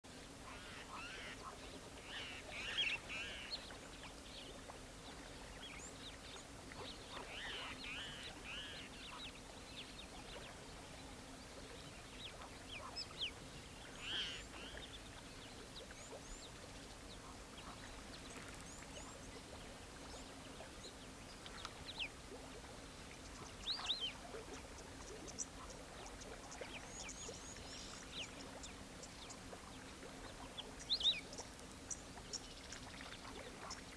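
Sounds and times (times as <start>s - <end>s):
faint low hum: 0.1s - 33.9s.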